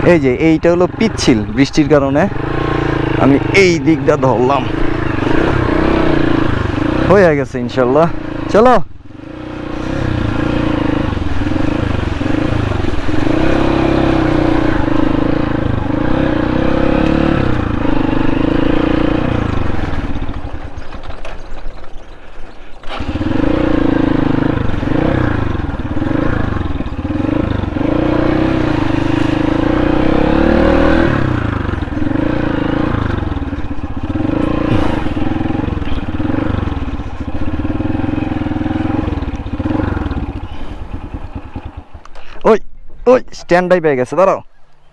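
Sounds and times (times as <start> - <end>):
motorcycle engine revving: 0.0 - 42.4.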